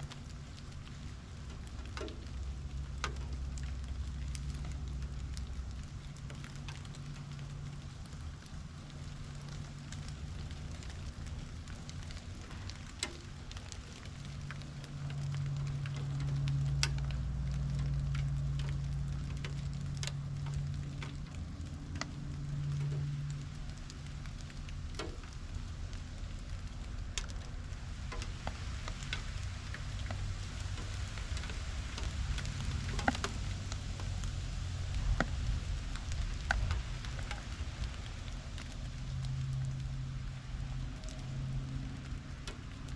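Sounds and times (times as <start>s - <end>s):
light rain pattering: 0.0s - 42.9s
raindrops ticking on surfaces: 0.0s - 42.9s.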